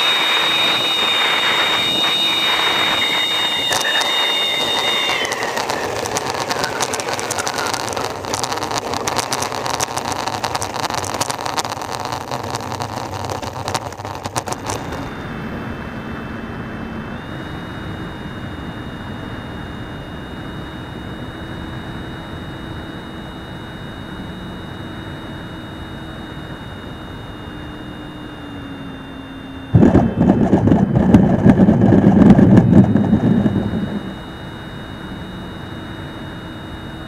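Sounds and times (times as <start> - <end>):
ducted fan rushing: 0.0 - 20.8, 25.3 - 37.0
high steady whine: 0.0 - 37.0.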